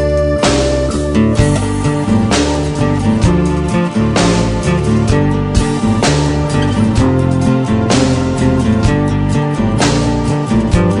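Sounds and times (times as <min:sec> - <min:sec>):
instrumental rock music: 0:00.0 - 0:11.0.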